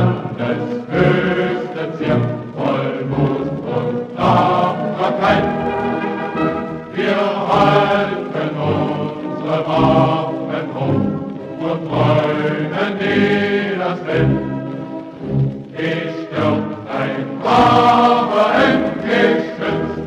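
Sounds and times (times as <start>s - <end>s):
choir singing: 0.0s - 20.0s.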